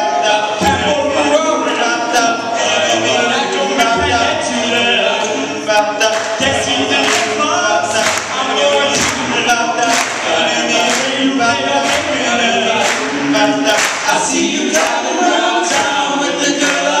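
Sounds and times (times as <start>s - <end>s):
men singing in harmony: 0.0s - 17.0s.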